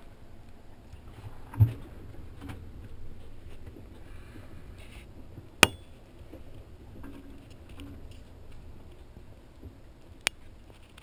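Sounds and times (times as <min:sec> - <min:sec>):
water against boat: 0:00.0 - 0:11.0
wind rumble: 0:00.0 - 0:11.0.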